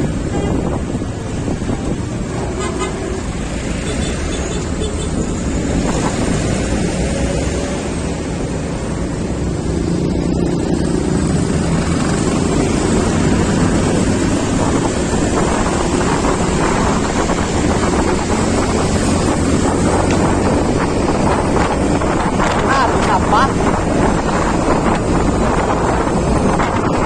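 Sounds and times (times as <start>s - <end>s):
vehicle engine and road noise: 0.0s - 27.0s
wind buffeting microphone: 0.0s - 27.0s.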